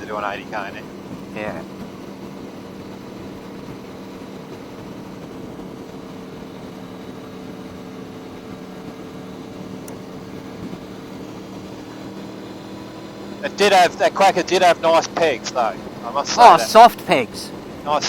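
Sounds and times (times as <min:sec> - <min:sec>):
motorcycle engine droning: 0:00.0 - 0:18.0
wind and road noise: 0:00.0 - 0:18.0.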